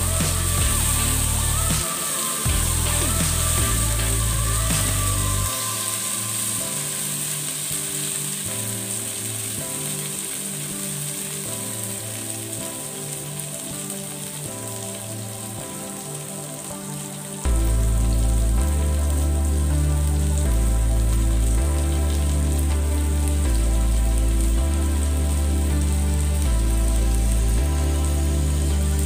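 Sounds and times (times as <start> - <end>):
background music: 0.0 - 29.0
onions and tomatoes sizzling in pan: 0.0 - 29.0.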